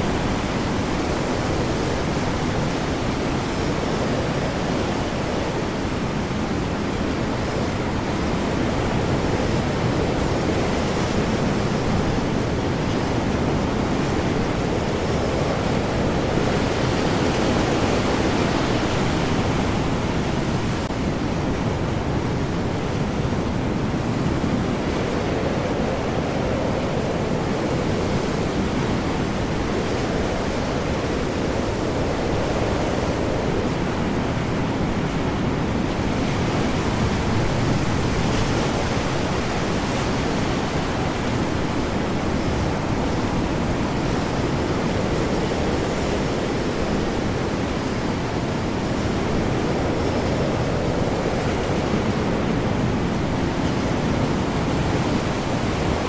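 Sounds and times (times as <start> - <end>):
heavy ocean waves: 0.0 - 56.0
high wind: 0.0 - 56.0.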